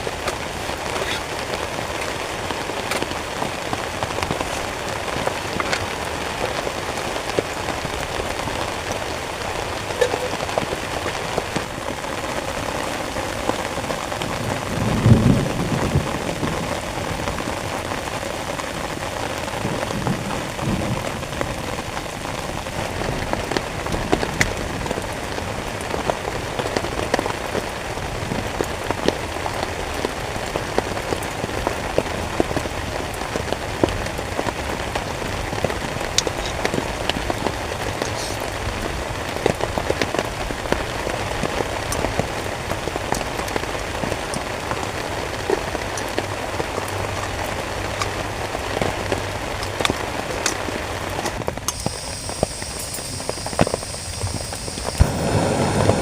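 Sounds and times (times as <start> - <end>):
heavy rain on a tent: 0.0 - 56.0.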